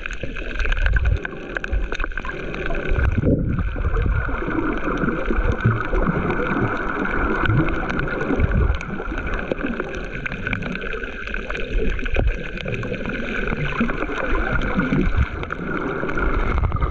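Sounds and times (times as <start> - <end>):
muffled underwater water rumble: 0.0 - 16.9.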